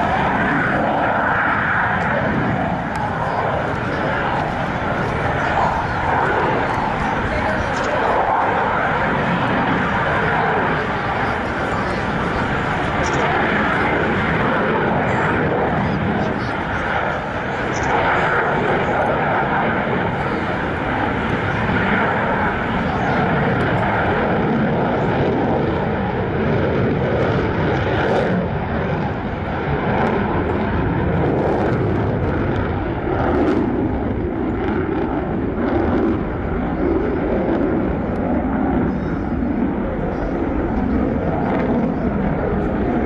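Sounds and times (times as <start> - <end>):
jet engine noise: 0.0 - 43.0.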